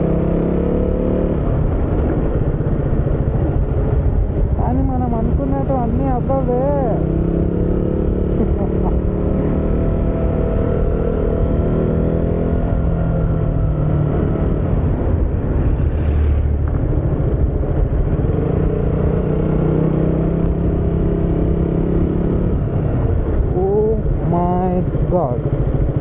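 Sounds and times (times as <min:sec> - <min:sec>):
wind noise on microphone: 0:00.0 - 0:24.8
motorcycle engine cruising: 0:00.0 - 0:26.0.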